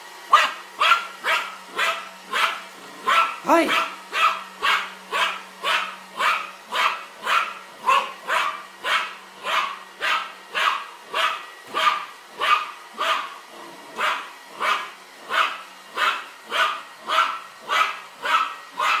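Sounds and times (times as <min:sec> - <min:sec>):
dog barking: 0:00.3 - 0:13.4, 0:14.0 - 0:19.0.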